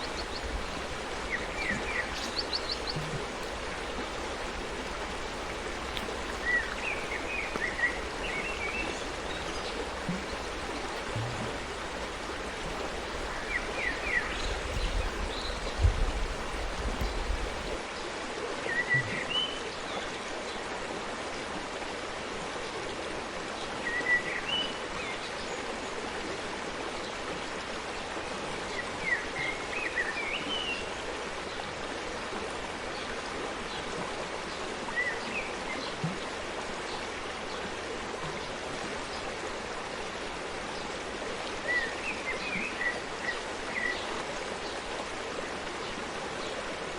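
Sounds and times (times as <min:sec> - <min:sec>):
forest stream running: 0:00.0 - 0:46.9.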